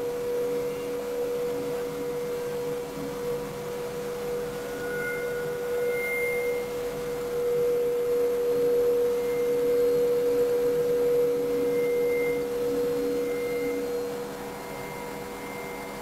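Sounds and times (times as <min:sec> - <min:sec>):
steady whine: 0:00.0 - 0:16.0.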